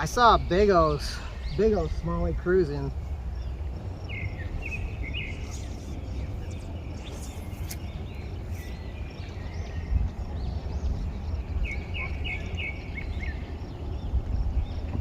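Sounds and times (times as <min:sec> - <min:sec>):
small birds chirping: 0:00.0 - 0:15.0
wind rumbling on microphone: 0:00.0 - 0:15.0.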